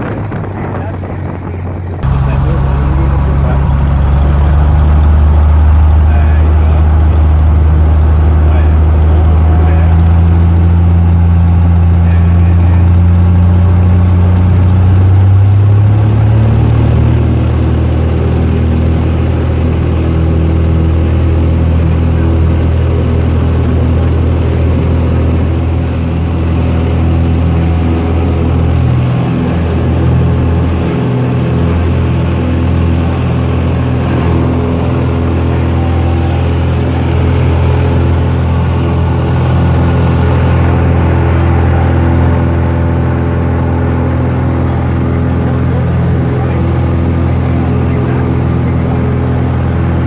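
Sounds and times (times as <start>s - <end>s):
airplane engine and propeller: 0.0s - 50.0s.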